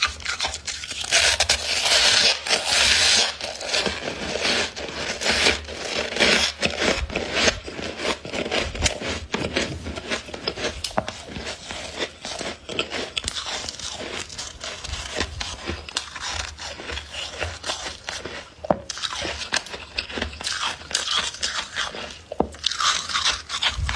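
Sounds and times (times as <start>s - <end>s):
frost crunching while chewed: 0.0s - 23.9s.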